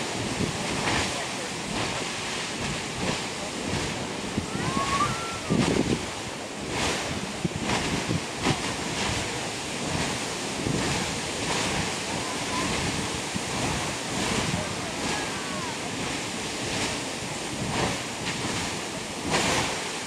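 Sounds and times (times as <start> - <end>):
geyser water column rushing: 0.0 - 20.0.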